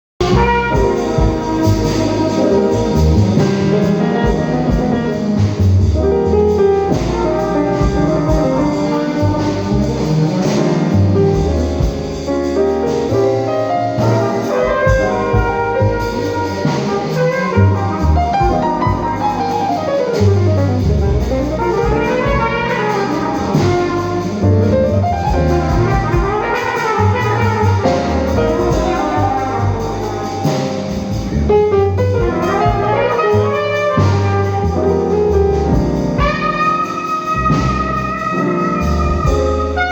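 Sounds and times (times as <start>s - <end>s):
jazz band with brass playing: 0.2s - 39.9s
walking bass: 0.2s - 39.9s.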